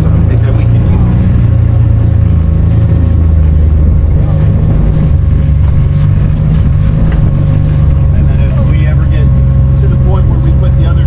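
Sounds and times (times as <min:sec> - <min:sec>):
constant whine: 0:00.0 - 0:11.0
vehicle engine rumble: 0:00.0 - 0:11.0.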